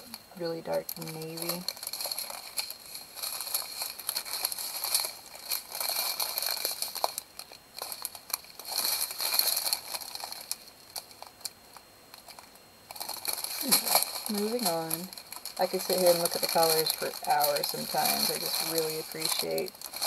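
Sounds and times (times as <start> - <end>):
plastic bags crinkling: 0.0 - 20.0
small beads clicking in bags: 0.5 - 20.0.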